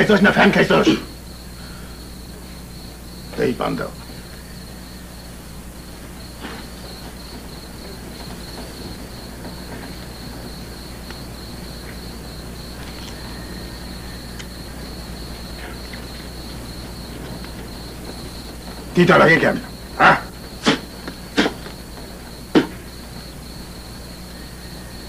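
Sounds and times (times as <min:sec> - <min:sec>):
crickets chirping: 0:00.0 - 0:25.0
low electrical hum and hiss: 0:00.0 - 0:25.0.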